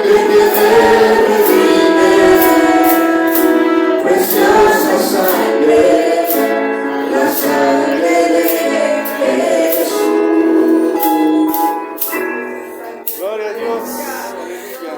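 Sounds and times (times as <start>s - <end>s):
band accompaniment: 0.0s - 14.0s
choir singing a praise song: 0.0s - 14.8s.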